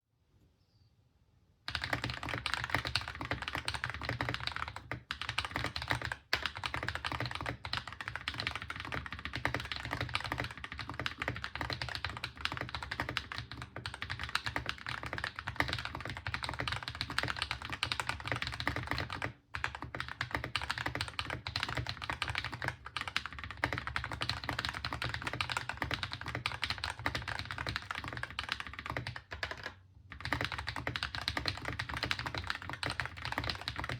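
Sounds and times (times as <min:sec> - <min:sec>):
mechanical keyboard typing: 0:01.7 - 0:33.9.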